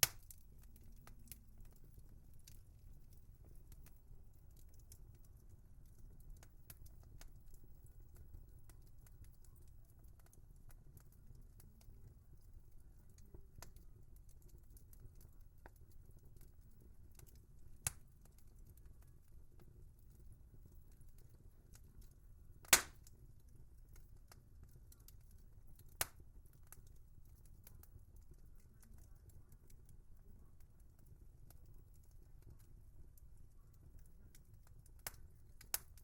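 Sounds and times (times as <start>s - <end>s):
low fire rumble: 0.0s - 36.0s
wood fire crackling: 0.0s - 36.0s.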